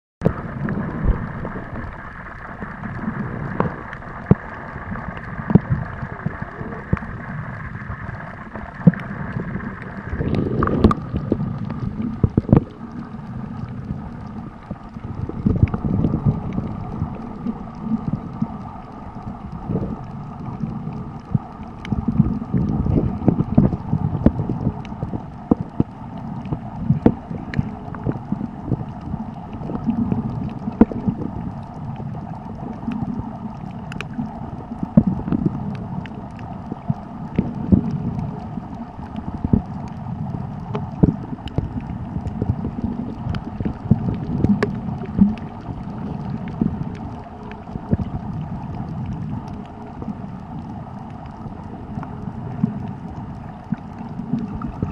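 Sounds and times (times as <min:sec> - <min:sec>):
muffled underwater noise: 0:00.2 - 0:54.9
sharp clicks and crackles: 0:00.2 - 0:54.9.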